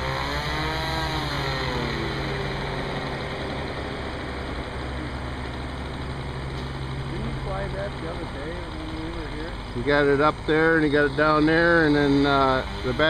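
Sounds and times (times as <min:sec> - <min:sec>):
model airplane engine idling: 0:01.8 - 0:13.0.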